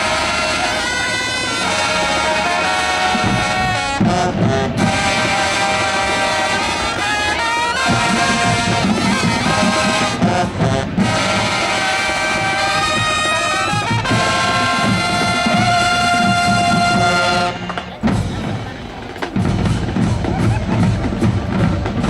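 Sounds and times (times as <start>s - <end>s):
brass chords: 0.0s - 22.0s
drumline playing: 0.0s - 22.0s.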